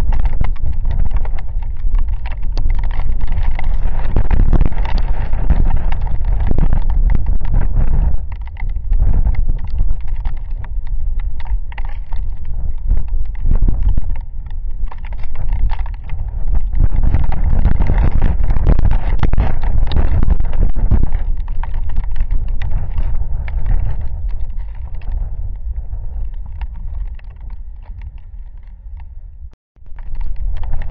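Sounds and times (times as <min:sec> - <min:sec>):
raindrops pattering on camera: 0:00.0 - 0:29.1, 0:29.8 - 0:30.9
wind buffeting microphone: 0:00.0 - 0:30.9.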